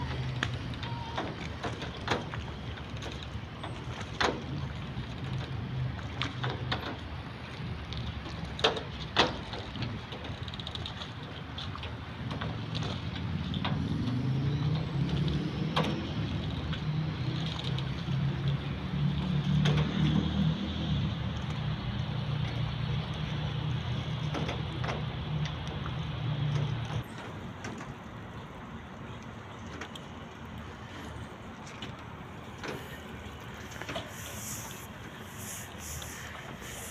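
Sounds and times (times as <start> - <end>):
large engine humming: 0.0 - 7.6, 12.3 - 36.9.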